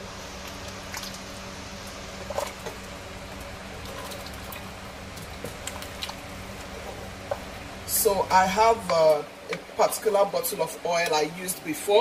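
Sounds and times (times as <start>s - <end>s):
soup simmering hiss: 0.0s - 10.9s.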